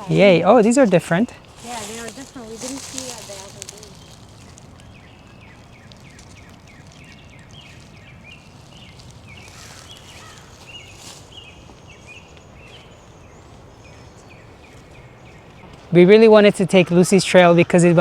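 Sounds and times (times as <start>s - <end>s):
small animals chirping: 0.0s - 14.9s
low outdoor background: 0.0s - 18.0s.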